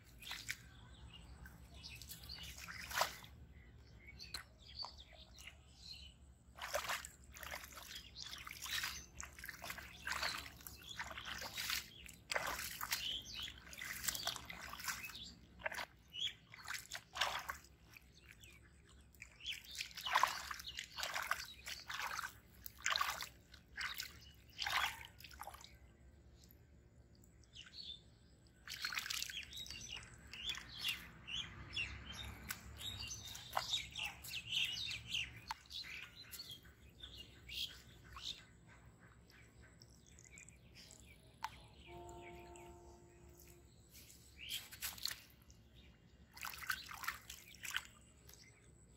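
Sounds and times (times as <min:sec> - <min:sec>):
wet mud squelching: 0:00.0 - 0:05.5, 0:06.4 - 0:26.8, 0:28.6 - 0:41.6, 0:43.4 - 0:48.6
birds chirping: 0:00.0 - 0:48.9
muddy water sloshing: 0:00.0 - 0:48.9.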